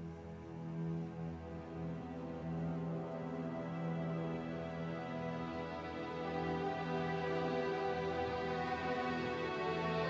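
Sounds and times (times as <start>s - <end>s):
slow sad string music: 0.0s - 10.0s.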